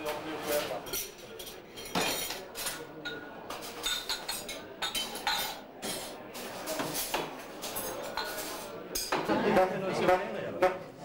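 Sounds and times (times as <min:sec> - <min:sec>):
cutlery and glasses clinking: 0:00.0 - 0:10.8.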